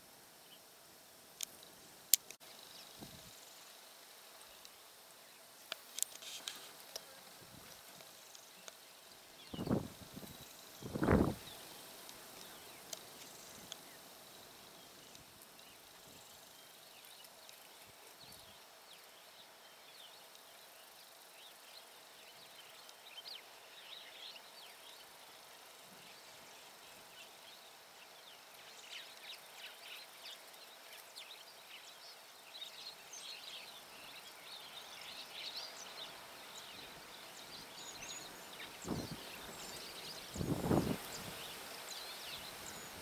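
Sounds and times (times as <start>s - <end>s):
small birds twittering: 4.4s - 43.0s.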